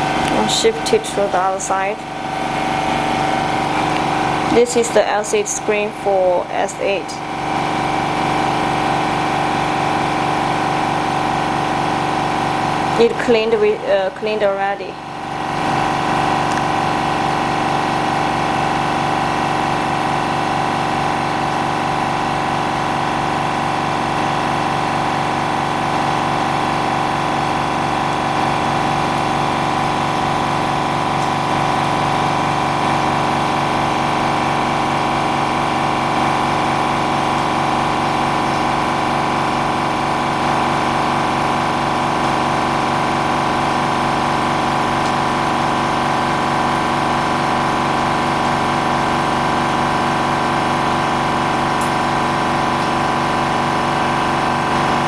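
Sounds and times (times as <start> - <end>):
electric workshop machine humming: 0.0 - 55.0.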